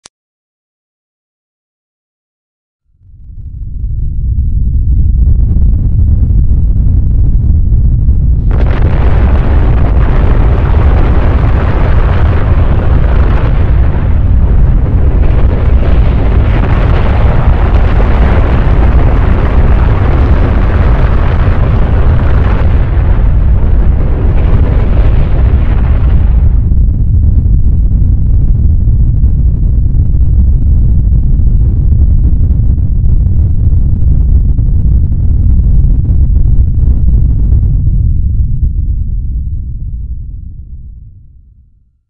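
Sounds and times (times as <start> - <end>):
deep volcanic rumble: 2.9 - 42.0.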